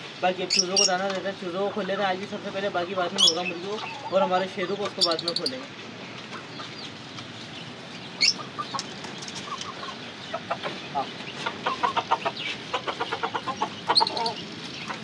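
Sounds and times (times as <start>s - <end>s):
chickens and chicks calling: 0.0s - 15.0s.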